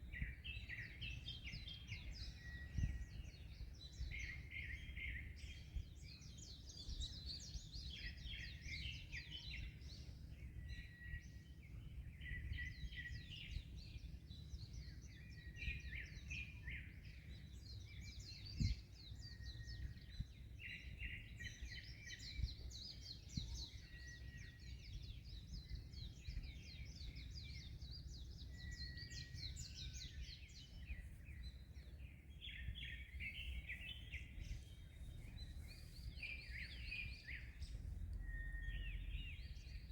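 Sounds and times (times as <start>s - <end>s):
small birds chirping: 0.0s - 39.9s
wind: 0.0s - 39.9s.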